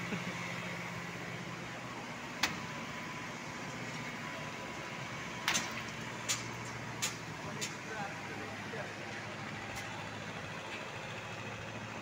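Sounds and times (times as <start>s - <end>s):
machinery engine hum: 0.0s - 12.0s.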